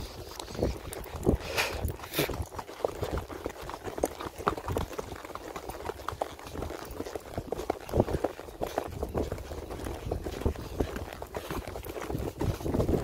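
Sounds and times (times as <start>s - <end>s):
horse hooves on dirt trail: 0.0s - 13.0s.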